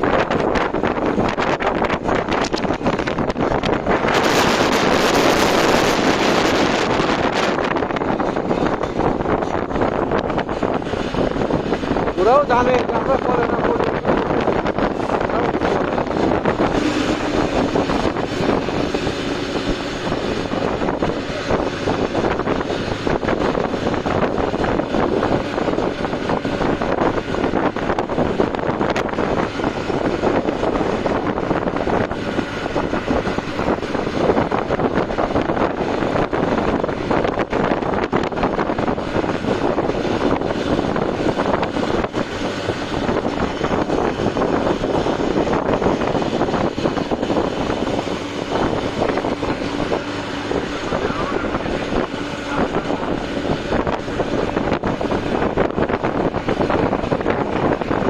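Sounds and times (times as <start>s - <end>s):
rushing wind and road noise: 0.0s - 58.0s
wind buffeting microphone: 0.0s - 58.0s.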